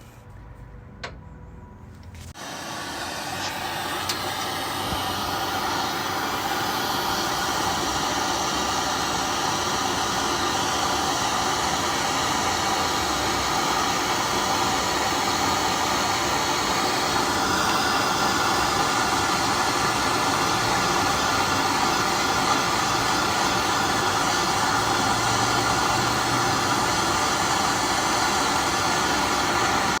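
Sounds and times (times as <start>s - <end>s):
loud rushing hiss: 2.3s - 30.0s.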